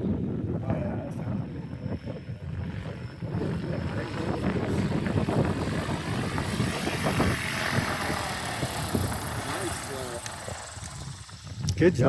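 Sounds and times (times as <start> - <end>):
model helicopter rotor and motor: 0.4 - 12.0.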